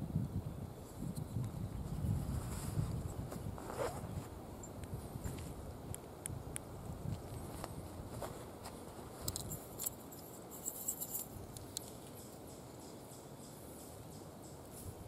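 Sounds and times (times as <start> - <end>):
outdoor hush: 2.5 - 15.0.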